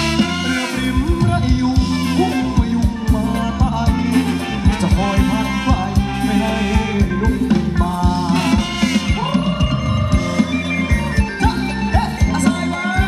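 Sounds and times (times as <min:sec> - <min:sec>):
live band dance music: 0:00.0 - 0:13.0
person singing: 0:00.0 - 0:13.0
steady drum beat: 0:00.0 - 0:13.0.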